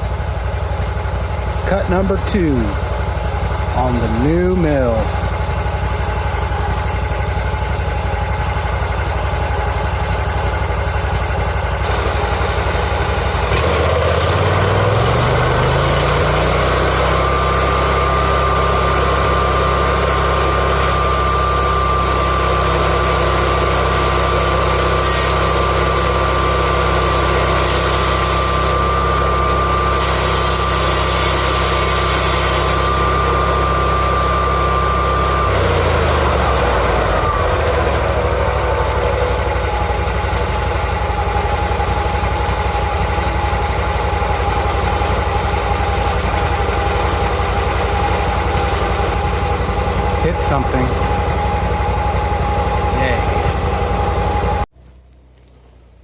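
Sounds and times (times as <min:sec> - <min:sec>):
band saw whining through log: 0:00.0 - 0:54.7
gasoline engine idling and revving: 0:00.0 - 0:56.0.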